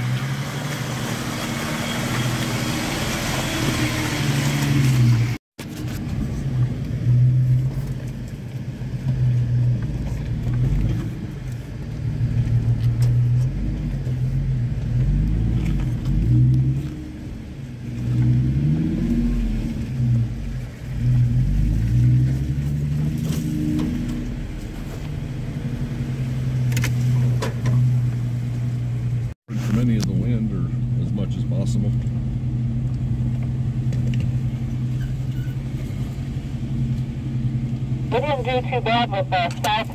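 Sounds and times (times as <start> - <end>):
suv engine running: 0.0 - 39.9.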